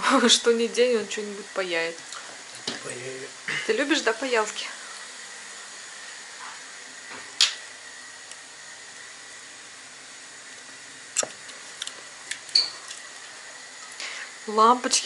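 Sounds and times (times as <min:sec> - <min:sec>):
soldering iron hiss: 0:00.0 - 0:15.0.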